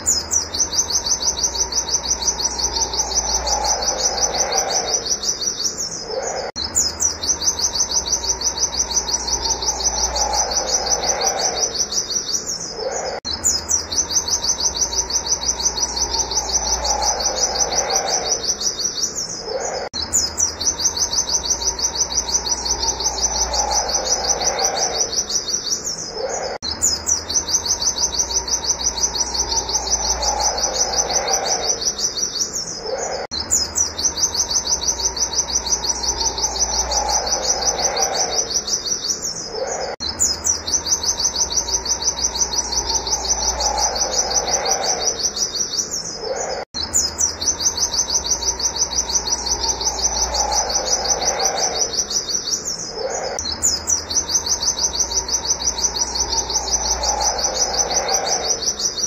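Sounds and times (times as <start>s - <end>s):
bird singing fast high notes: 0.0s - 59.0s
lower falling bird call: 0.0s - 59.0s.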